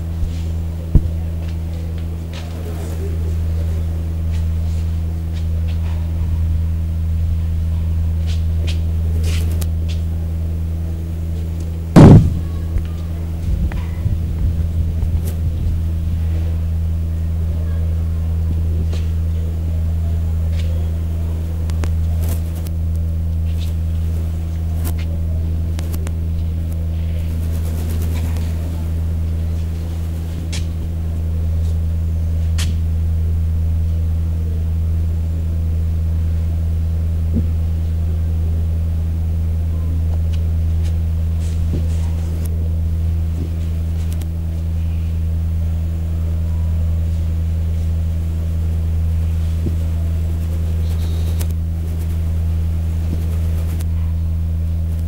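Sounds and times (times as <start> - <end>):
loud low hum: 0.0 - 55.0.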